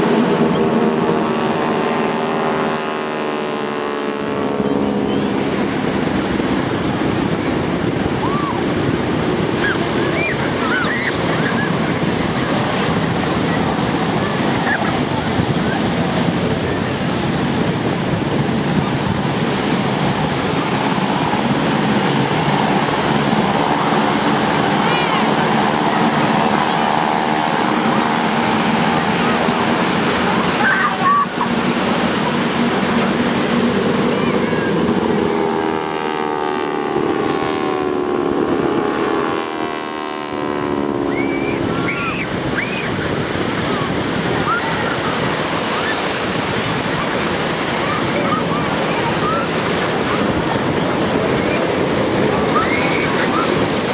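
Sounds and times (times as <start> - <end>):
distant propeller planes droning: 0.0 - 53.9
surf: 0.0 - 53.9
wind: 0.0 - 53.9.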